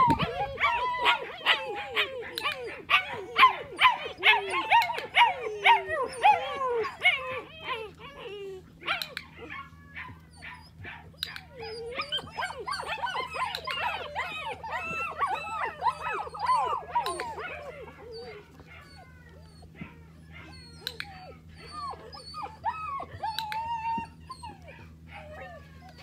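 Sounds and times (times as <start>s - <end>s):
puppy whining and yelping: 0.0s - 26.0s.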